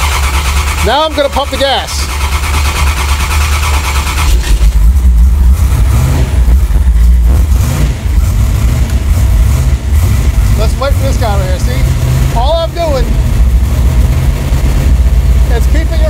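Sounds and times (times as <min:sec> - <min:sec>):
engine starting and revving: 0:00.0 - 0:16.0.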